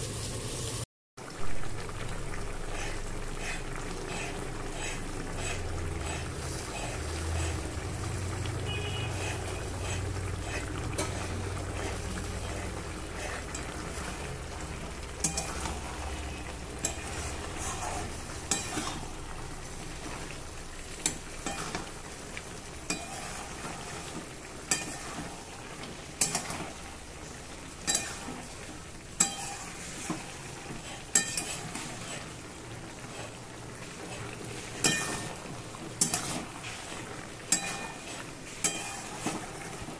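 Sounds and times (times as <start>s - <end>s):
curry sizzling and bubbling: 0.0s - 39.9s
wooden spatula scraping a pan: 2.8s - 22.0s, 22.8s - 32.4s, 33.0s - 33.4s, 34.0s - 39.9s.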